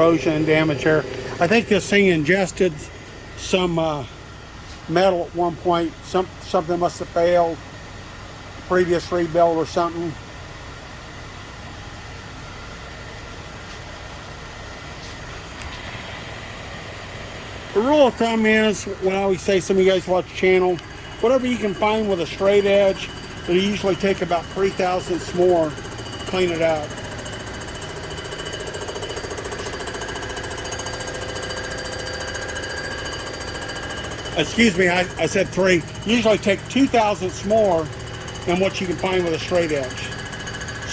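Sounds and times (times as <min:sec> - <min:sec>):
machinery humming: 0:00.0 - 0:40.9.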